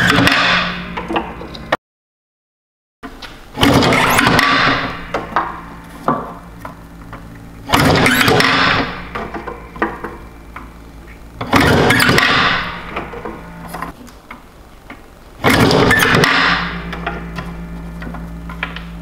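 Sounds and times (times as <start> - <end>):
low steady hum: 3.8 - 19.0.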